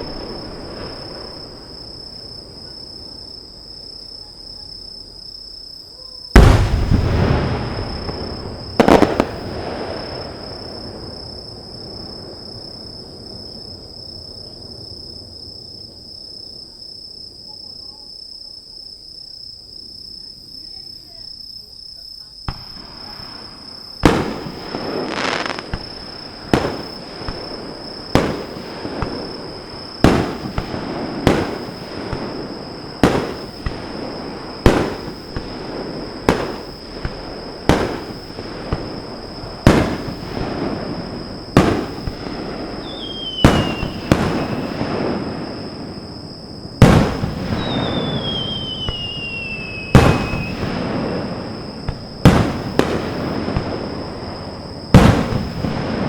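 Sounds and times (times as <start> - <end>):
fireworks bursting with rumble: 0.0 - 5.6, 6.3 - 17.1, 22.4 - 56.0.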